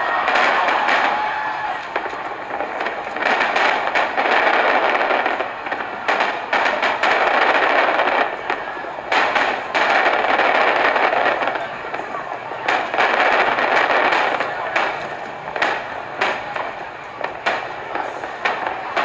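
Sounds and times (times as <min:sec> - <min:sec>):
fireworks crackling: 0:00.0 - 0:19.0.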